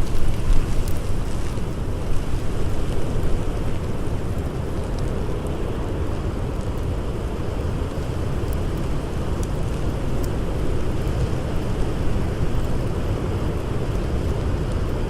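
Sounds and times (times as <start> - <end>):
blizzard wind blowing: 0.0 - 15.0
faint campfire crackles: 0.0 - 15.0.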